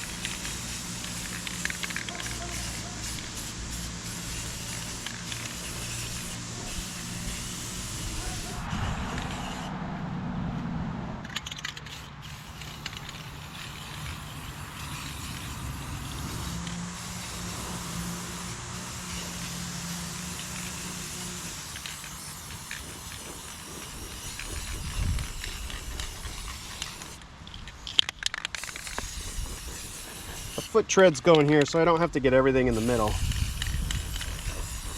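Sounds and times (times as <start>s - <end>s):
spray paint can hissing: 0.0s - 9.7s, 11.2s - 34.9s.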